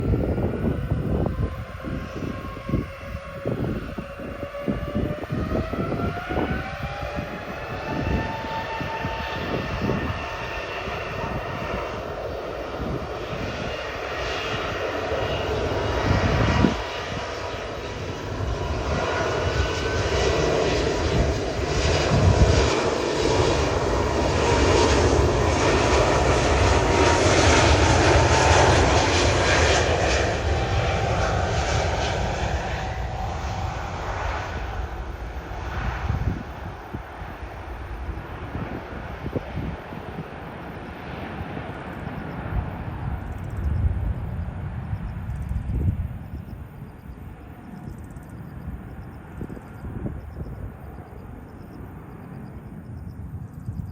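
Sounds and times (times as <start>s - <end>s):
jet engine whine: 0.0s - 53.9s
jet roar: 0.0s - 53.9s.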